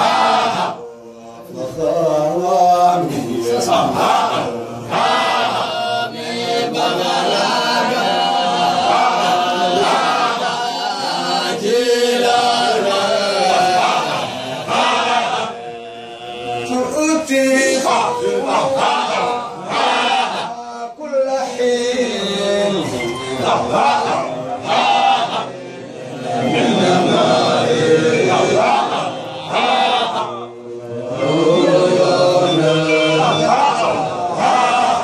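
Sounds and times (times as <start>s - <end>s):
men chanting together: 0.0s - 35.0s.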